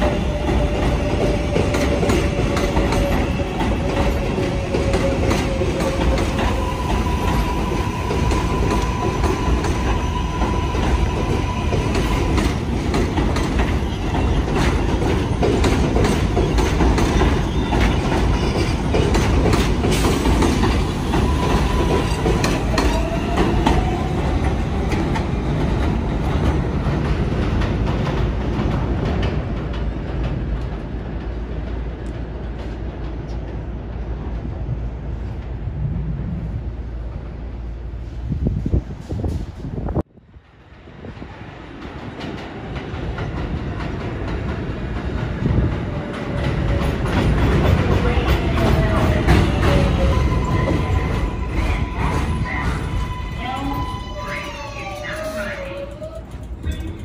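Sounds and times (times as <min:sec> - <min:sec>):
rail clacks: 0:00.0 - 0:35.9, 0:41.0 - 0:57.0
subway train rumbling on track: 0:00.0 - 0:57.0.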